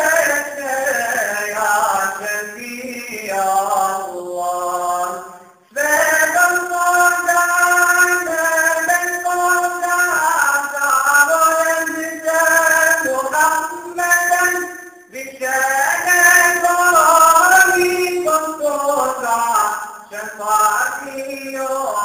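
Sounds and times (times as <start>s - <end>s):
man singing a devotional hymn: 0.0s - 22.0s.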